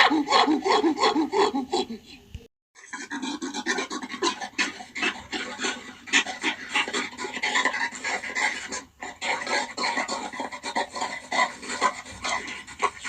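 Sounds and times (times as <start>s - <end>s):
gorilla raspy scratchy noises: 0.0s - 13.0s.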